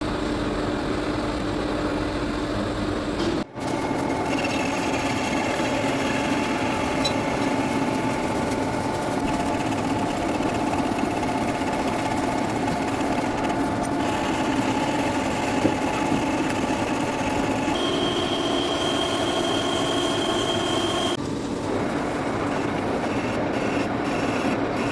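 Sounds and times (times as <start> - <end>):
metal lathe whining: 3.6 - 24.9.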